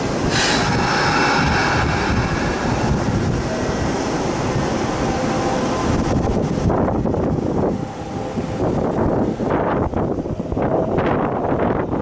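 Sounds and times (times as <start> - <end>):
electric train rolling past: 0.0 - 12.0
wind buffeting microphone: 0.0 - 12.0.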